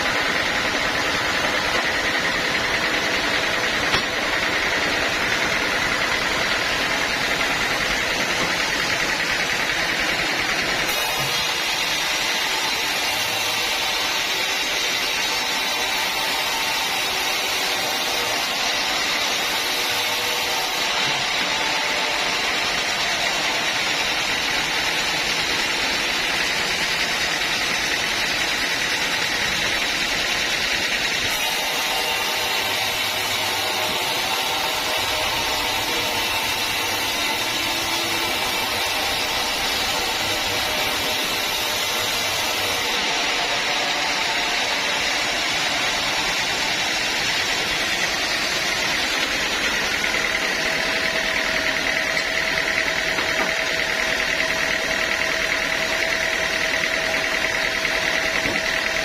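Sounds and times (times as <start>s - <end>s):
sawmill saw cutting wood: 0.0s - 59.0s.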